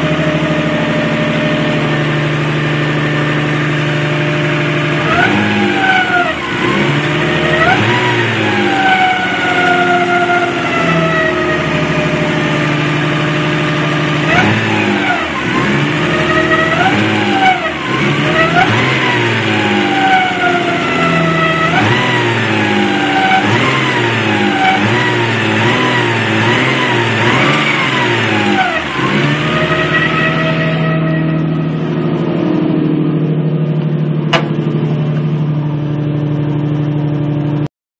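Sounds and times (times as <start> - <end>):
car engine revving: 0.0 - 37.7.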